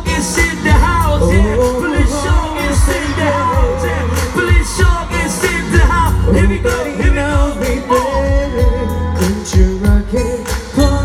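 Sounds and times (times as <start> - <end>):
amplified pop band: 0.0 - 11.0
heavy pulsing bass beat: 0.0 - 11.0
man singing: 0.0 - 11.0.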